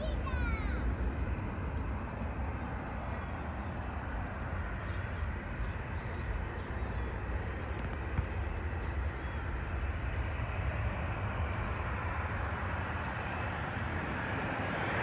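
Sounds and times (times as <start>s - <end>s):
distant jet airliner rumble: 0.0s - 15.0s.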